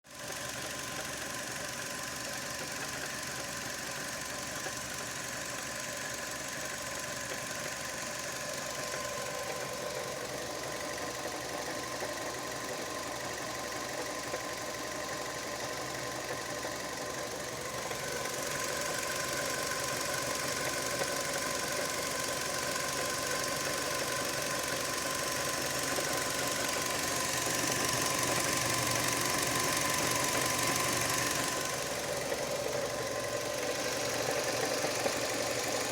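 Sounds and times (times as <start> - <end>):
car engine running: 0.1 - 35.9
engine knocking: 0.1 - 35.9.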